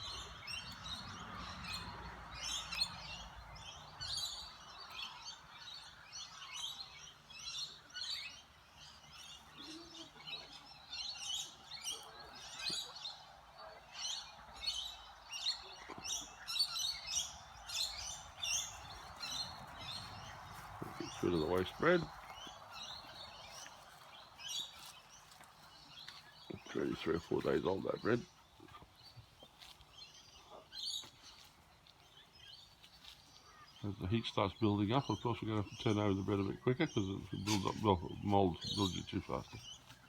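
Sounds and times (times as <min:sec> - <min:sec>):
many birds chirping: 0:00.0 - 0:40.0.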